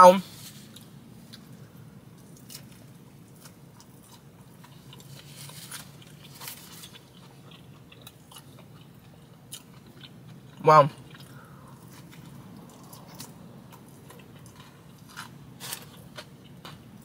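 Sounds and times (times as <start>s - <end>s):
crunching of breading: 0.4s - 17.0s
chewing food: 0.7s - 17.0s.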